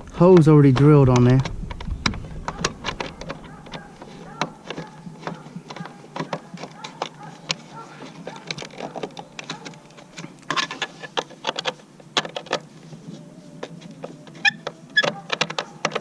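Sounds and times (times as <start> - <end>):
clicks and knocks of tools: 0.0 - 12.7, 13.6 - 16.0.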